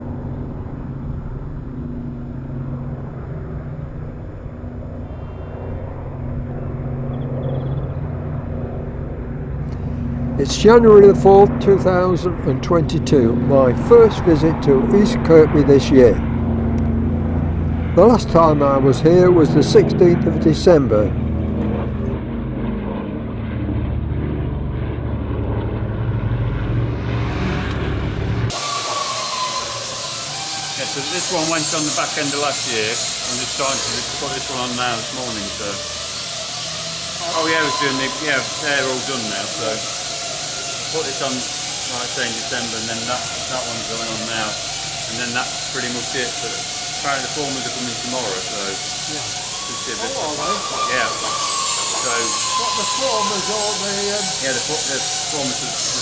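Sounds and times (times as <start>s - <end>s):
deep hum: 0.0s - 56.0s
low mechanical rumble: 0.0s - 56.0s.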